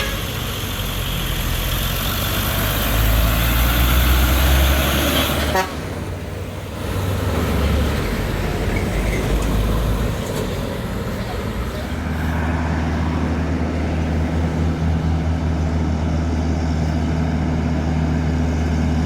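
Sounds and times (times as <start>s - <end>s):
heavy truck engine under load: 0.0s - 19.0s.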